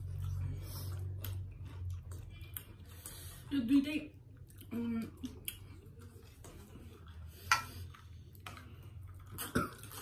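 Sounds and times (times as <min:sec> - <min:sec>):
chewing and mouth noises: 0:00.0 - 0:10.0.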